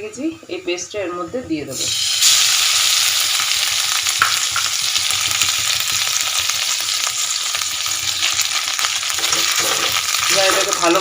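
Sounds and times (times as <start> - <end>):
ginger paste sizzling in hot fat: 0.6 - 11.0.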